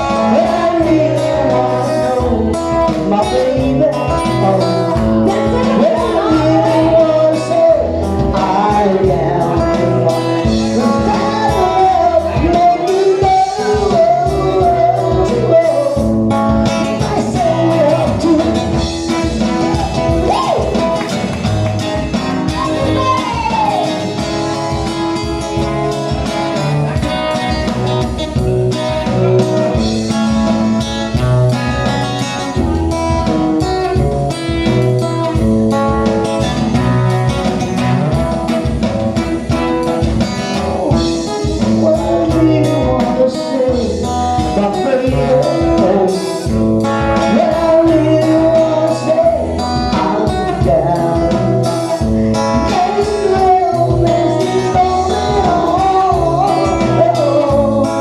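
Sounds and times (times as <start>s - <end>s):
live band playing guitar-led tune: 0.0s - 58.0s.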